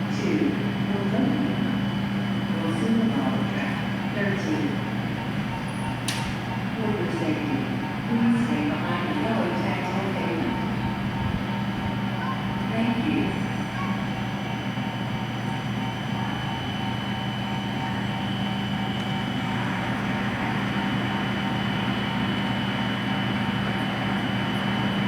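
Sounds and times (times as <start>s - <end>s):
train electric hum: 0.0s - 25.0s.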